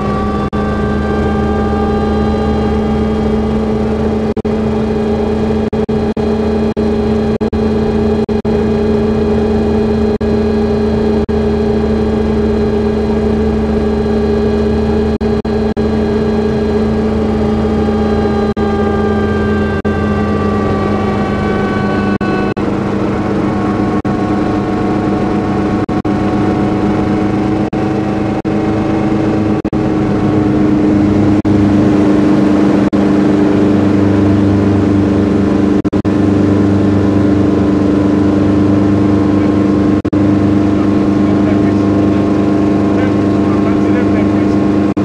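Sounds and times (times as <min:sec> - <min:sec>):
helicopter engine and rotor drone: 0:00.0 - 0:45.0.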